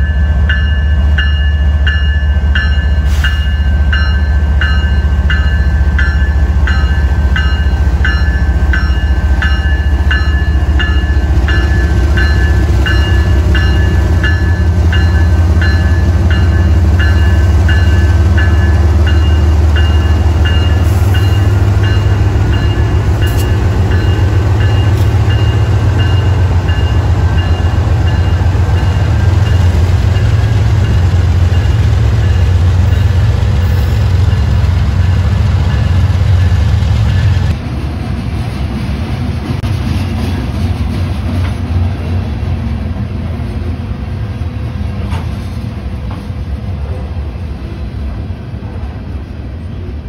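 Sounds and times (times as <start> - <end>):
diesel locomotives rumbling: 0.0 - 50.0.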